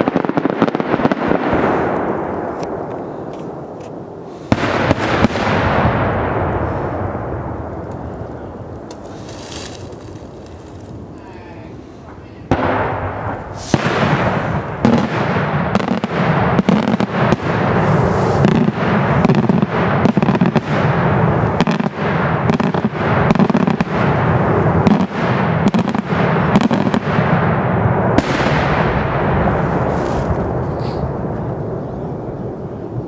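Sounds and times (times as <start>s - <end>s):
fireworks bursts and crackling bangs: 0.0s - 33.0s
continuous low rumble: 5.2s - 33.0s.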